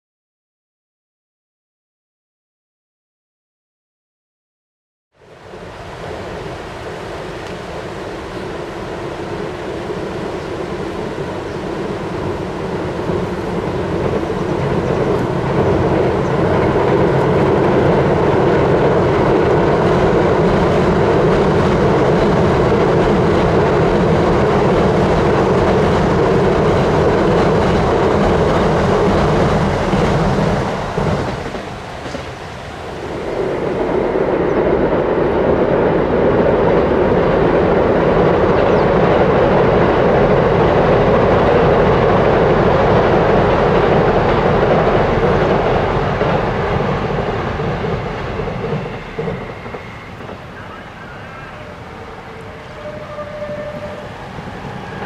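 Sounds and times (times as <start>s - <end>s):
train rolling over steel bridge: 5.2s - 55.0s
wheels clattering on rails: 9.7s - 55.0s.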